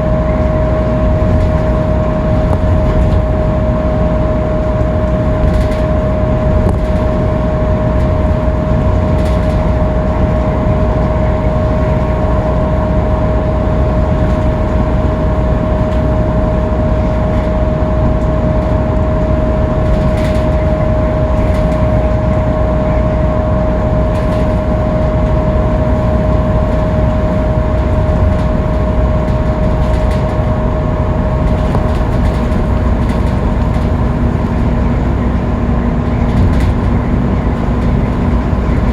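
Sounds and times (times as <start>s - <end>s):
bus engine and road rumble: 0.0s - 38.9s
constant high whine: 0.0s - 38.9s.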